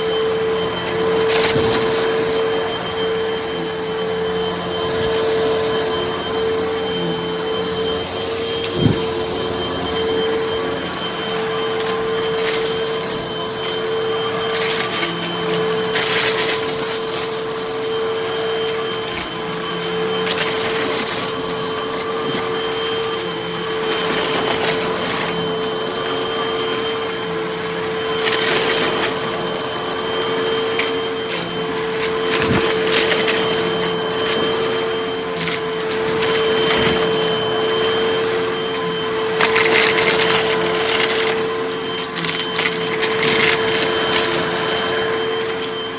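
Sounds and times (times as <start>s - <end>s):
vacuum cleaner motor whine: 0.0s - 45.9s.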